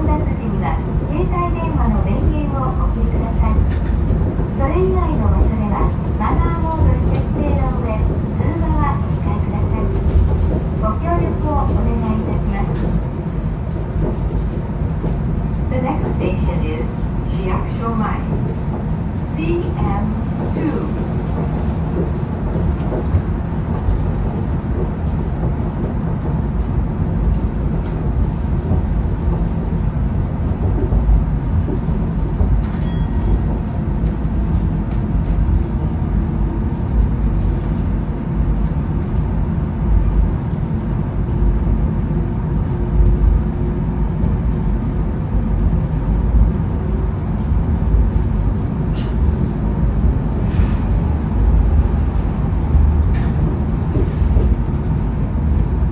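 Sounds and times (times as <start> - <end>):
monorail car rumble: 0.0 - 55.9.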